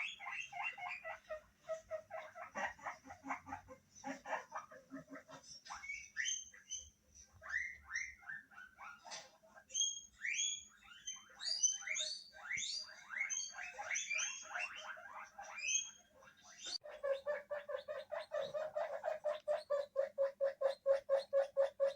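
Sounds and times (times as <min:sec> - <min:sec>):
guinea pigs squealing: 0:00.0 - 0:21.9.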